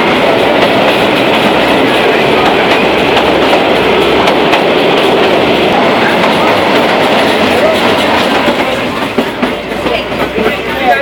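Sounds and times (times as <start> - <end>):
train coach rattling: 0.0 - 11.0
wheels clattering over rails: 0.0 - 11.0.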